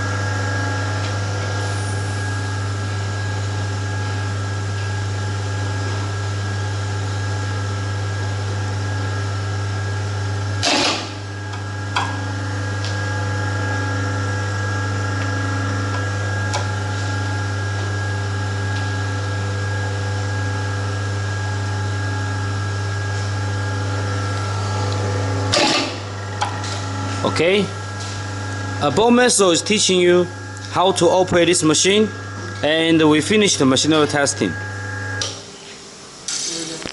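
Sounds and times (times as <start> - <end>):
machine motor hum: 0.0 - 36.9.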